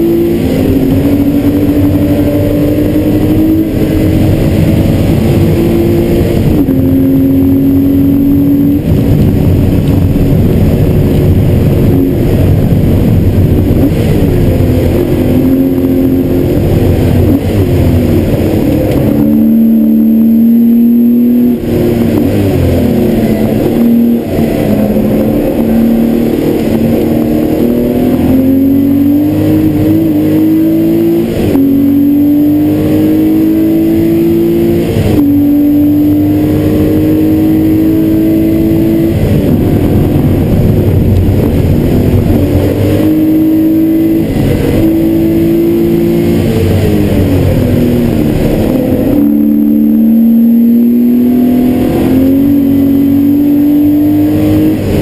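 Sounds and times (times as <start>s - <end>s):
car engine accelerating: 0.0s - 55.0s
tyre and wind noise: 0.0s - 55.0s.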